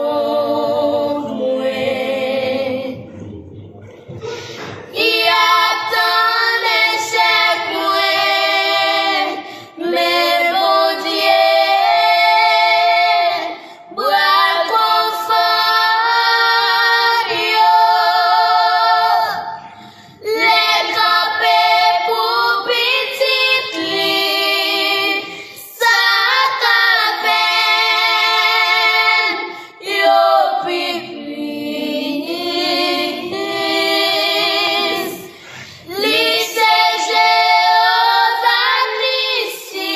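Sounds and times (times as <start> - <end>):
girls singing gospel song: 0.0 - 39.9.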